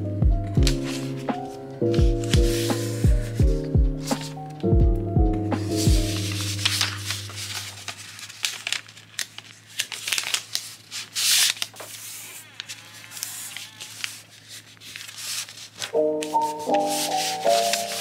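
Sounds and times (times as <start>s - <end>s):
paper sleeve crinkling and rustling: 0.6s - 4.7s, 5.6s - 18.0s.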